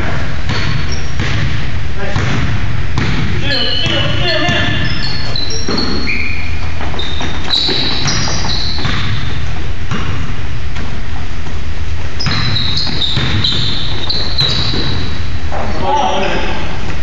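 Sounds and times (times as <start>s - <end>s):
sneakers squeaking on gym floor: 0.0s - 2.4s, 3.0s - 10.2s, 12.2s - 16.7s
basketball bouncing: 0.0s - 11.0s, 12.2s - 15.7s.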